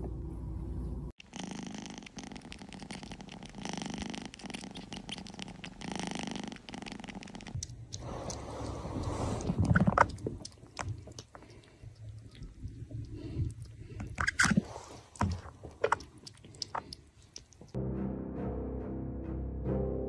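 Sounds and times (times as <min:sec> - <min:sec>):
kitten lapping water: 0:01.6 - 0:17.8.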